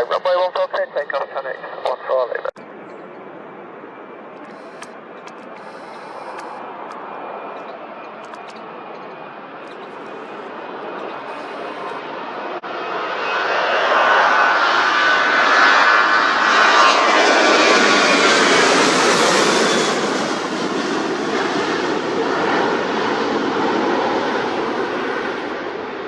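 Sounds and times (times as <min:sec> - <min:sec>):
jet airliner engines roaring: 0:00.0 - 0:26.0
jet engine whine: 0:00.0 - 0:26.0.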